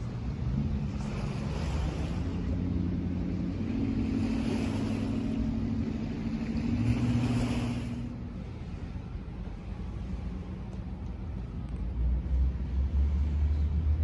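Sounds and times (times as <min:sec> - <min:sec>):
motor engine humming: 0:00.0 - 0:12.8.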